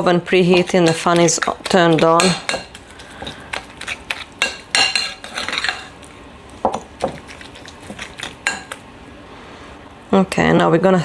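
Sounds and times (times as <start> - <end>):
utensil scraping against a bowl: 0.0 - 8.9
fan oven running: 0.0 - 11.0.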